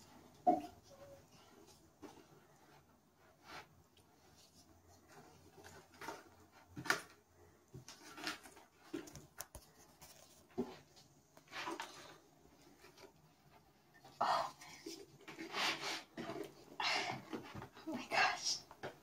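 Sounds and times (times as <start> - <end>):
wooden spoon stirring dough: 0.0 - 19.0.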